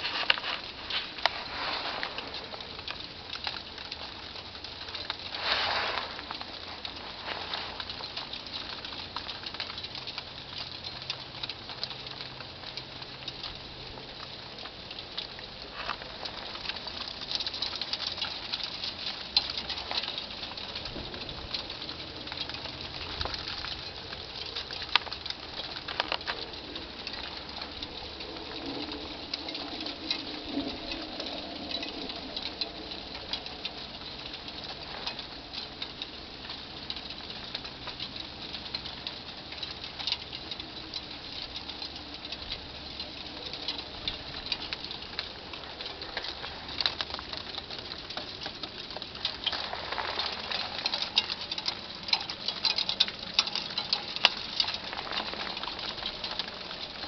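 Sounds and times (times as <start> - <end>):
freezing rain pattering: 0.0 - 57.0.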